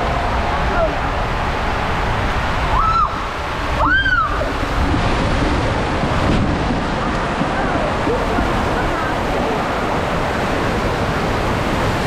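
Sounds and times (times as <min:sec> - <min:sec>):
water rushing through slide tube: 0:00.0 - 0:12.0.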